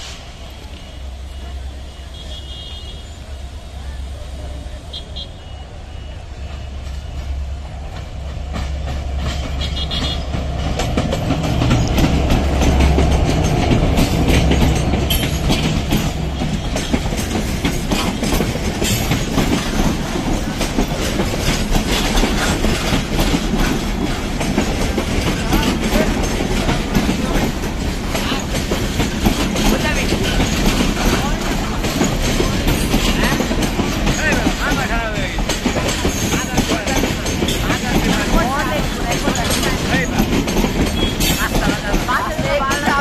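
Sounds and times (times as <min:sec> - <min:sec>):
diesel locomotive rumbling: 0:00.0 - 0:43.0
train wheels clattering over rail joints: 0:06.3 - 0:43.0.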